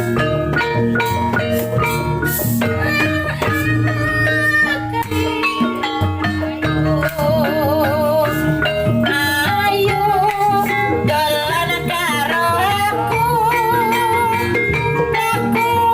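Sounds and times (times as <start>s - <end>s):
drums: 0.0s - 15.9s
struck pitched percussion: 0.0s - 15.9s.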